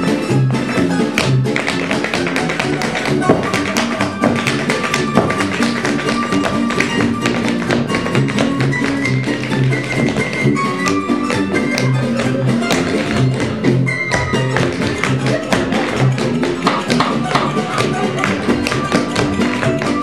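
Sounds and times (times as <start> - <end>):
tap shoes clicking: 0.6 - 20.0.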